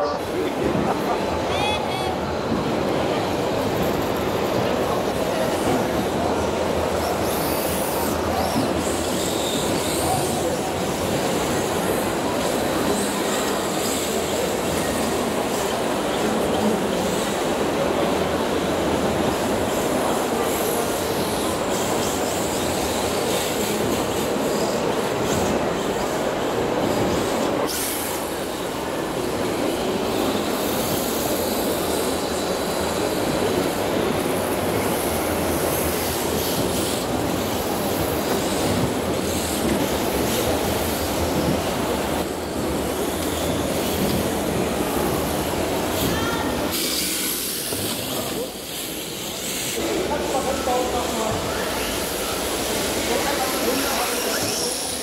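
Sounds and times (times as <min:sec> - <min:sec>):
hall background noise: 0:00.0 - 0:55.0.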